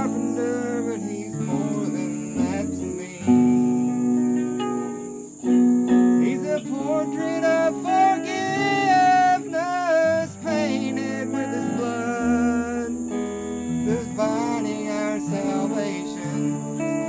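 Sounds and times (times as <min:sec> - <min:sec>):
electric guitar lead line: 0:00.0 - 0:17.0
low held notes: 0:00.0 - 0:17.0.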